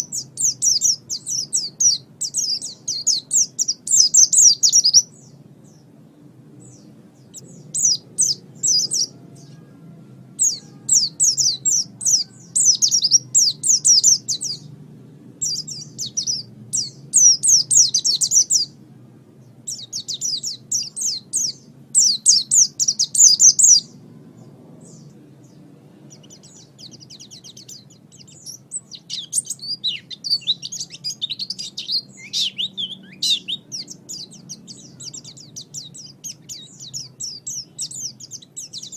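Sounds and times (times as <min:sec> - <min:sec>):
bird twittering song: 0:00.0 - 0:18.8, 0:19.4 - 0:38.9
faint low hum: 0:00.0 - 0:38.9.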